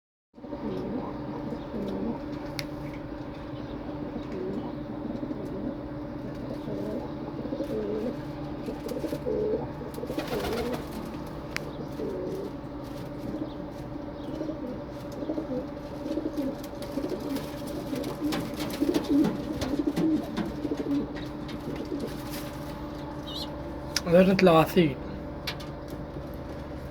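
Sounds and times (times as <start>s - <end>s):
pigeons cooing: 0.4s - 23.9s
steady low hum: 0.4s - 26.9s.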